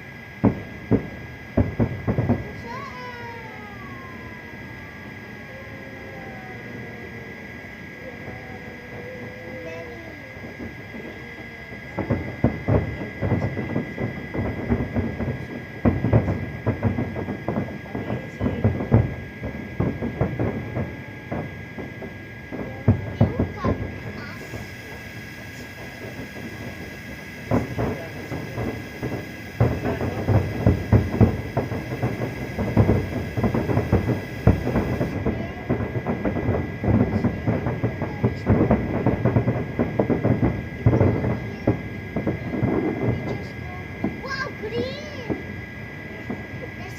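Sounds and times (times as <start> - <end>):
fireworks bangs and pops: 0.0 - 46.9.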